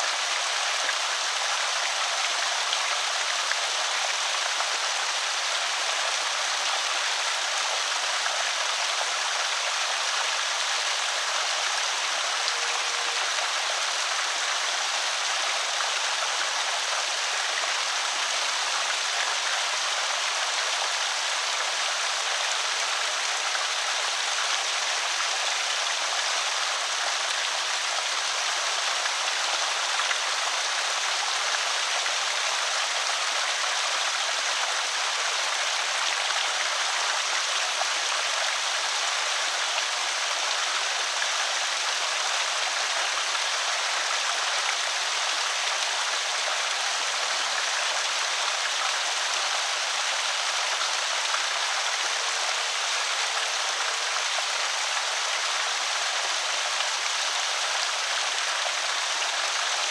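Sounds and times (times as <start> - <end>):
water pouring over spillway: 0.0 - 59.9.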